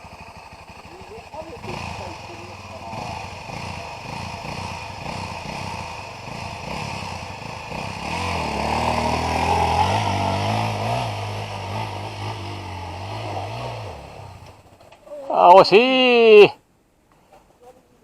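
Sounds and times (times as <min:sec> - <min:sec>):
motorcycle engine revving unevenly: 0:00.0 - 0:15.1.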